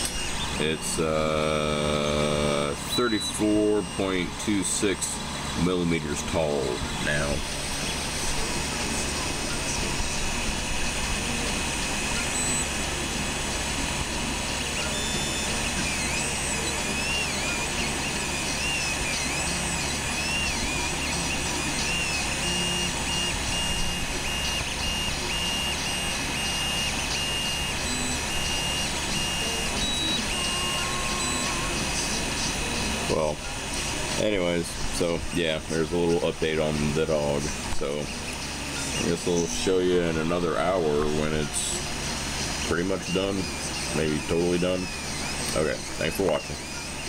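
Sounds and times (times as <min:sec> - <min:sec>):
printer fans whirring: 0:00.0 - 0:47.0
stepper motors whining: 0:00.0 - 0:47.0.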